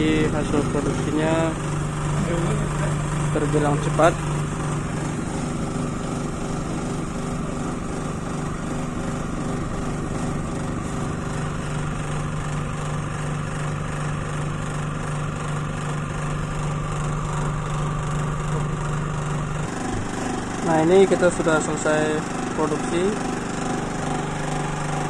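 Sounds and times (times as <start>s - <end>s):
vibratory sieve motor hum: 0.0s - 25.0s.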